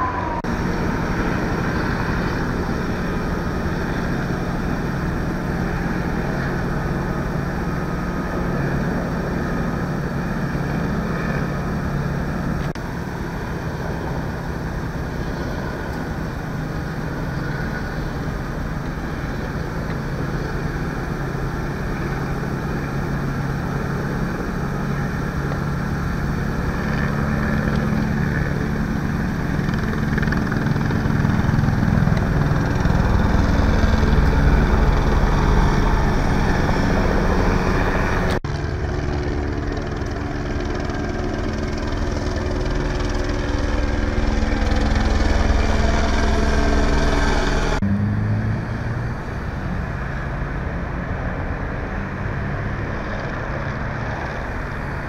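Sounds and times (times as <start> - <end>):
helicopter rotor drone: 0.0 - 55.0.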